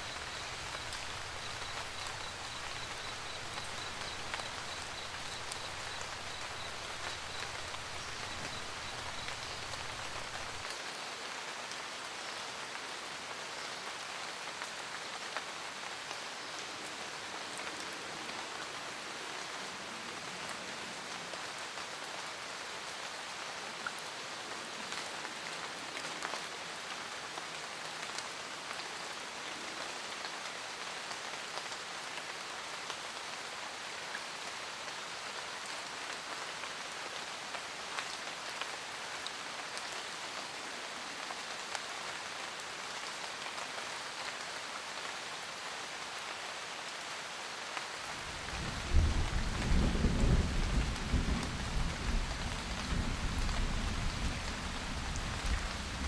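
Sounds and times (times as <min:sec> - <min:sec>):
rain pattering on a roof: 0:00.0 - 0:56.0.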